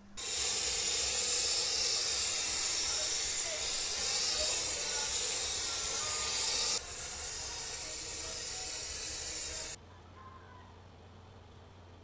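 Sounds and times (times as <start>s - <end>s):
compressed air spray hissing: 0.0s - 9.8s.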